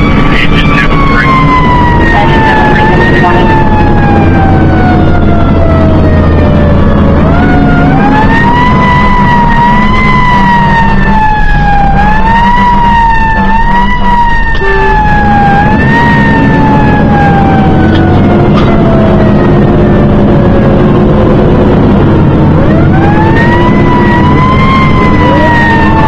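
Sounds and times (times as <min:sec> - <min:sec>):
fire engine siren wailing: 0:00.0 - 0:26.0
truck engine running: 0:00.0 - 0:26.0.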